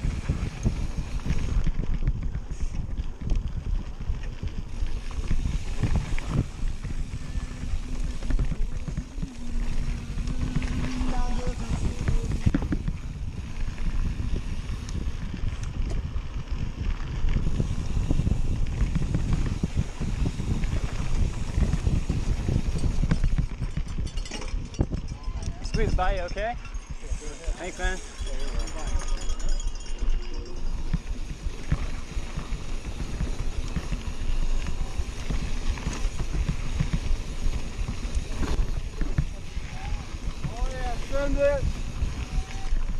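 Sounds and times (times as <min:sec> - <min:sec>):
bike tyres rumbling over trail: 0:00.0 - 0:42.9
wind buffeting microphone: 0:00.0 - 0:42.9.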